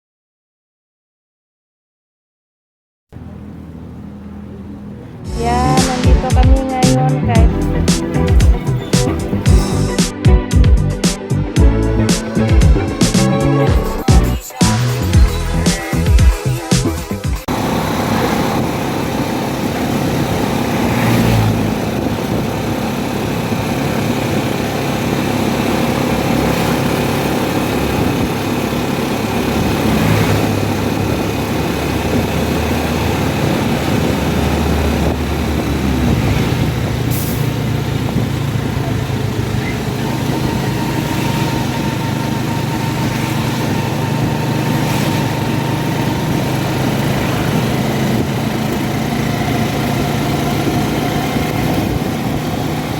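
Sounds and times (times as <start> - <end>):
road noise: 3.1 - 52.9
vehicle engine running: 3.1 - 52.9.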